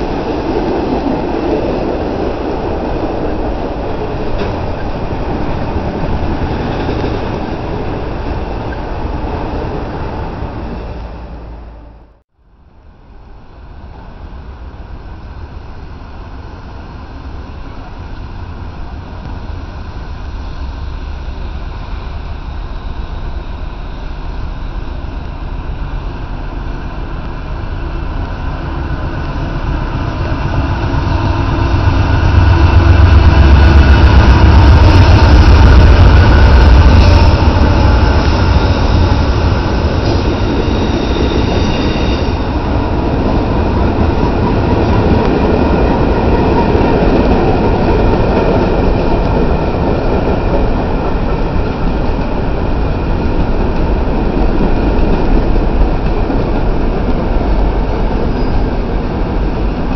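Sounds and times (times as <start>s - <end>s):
train wheels rattling on rails: 0.0s - 11.5s, 13.5s - 59.9s
diesel locomotives rumbling: 0.0s - 59.9s.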